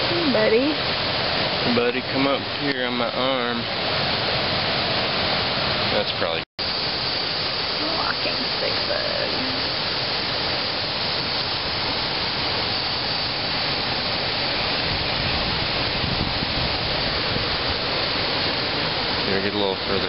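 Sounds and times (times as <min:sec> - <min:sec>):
rushing flowing water: 0:00.0 - 0:20.0.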